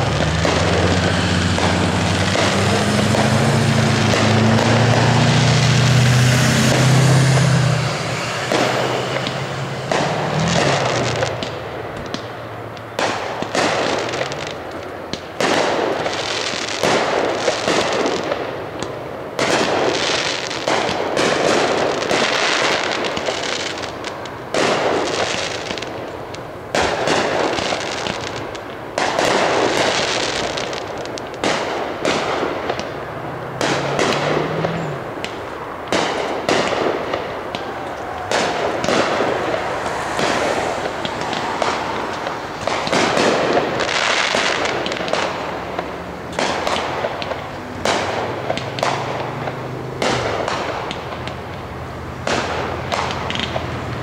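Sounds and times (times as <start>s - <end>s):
firework shells bursting: 0.0s - 53.8s.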